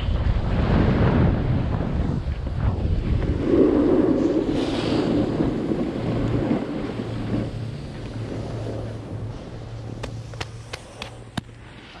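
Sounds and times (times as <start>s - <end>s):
snowboard scraping over snow: 0.0s - 12.0s
wind rushing over microphone: 0.0s - 12.0s.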